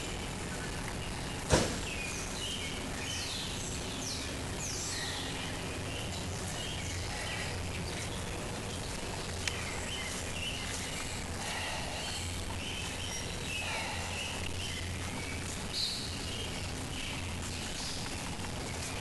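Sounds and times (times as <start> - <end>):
birds singing: 0.0 - 19.0
outdoor background hiss: 0.0 - 19.0.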